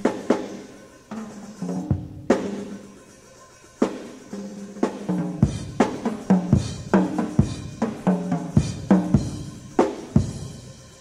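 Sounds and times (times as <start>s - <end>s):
drum kit solo: 0.0s - 11.0s.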